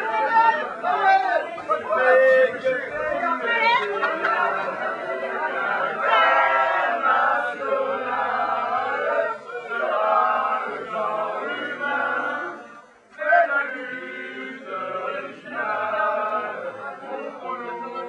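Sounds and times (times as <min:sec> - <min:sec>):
crowd chanting in unison: 0:00.0 - 0:18.0.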